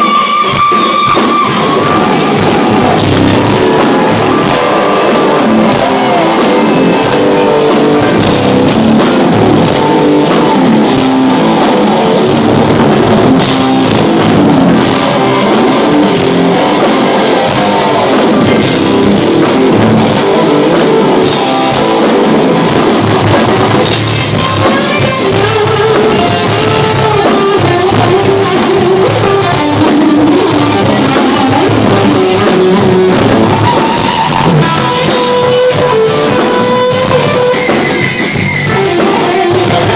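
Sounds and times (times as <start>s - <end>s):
bass guitar: 0.0s - 39.9s
drum kit: 0.0s - 39.9s
electric guitar lead melody: 0.0s - 39.9s.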